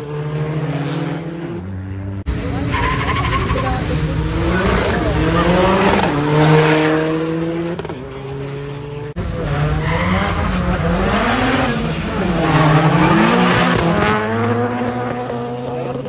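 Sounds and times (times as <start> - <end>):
engines revving: 0.0 - 16.0.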